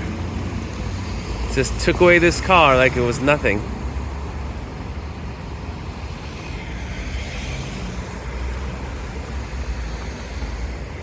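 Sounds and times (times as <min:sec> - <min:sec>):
vehicle engines and tyres rumble: 0:00.0 - 0:11.0.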